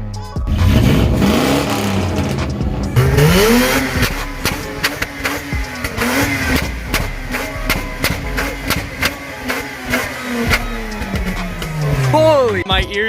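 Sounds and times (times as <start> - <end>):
car engine accelerating: 0.4 - 12.9.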